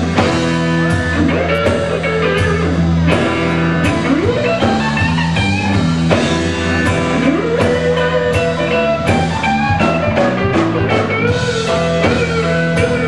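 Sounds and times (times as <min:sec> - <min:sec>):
lead guitar with note bends: 0:00.0 - 0:13.0
live blues band playing: 0:00.0 - 0:13.0.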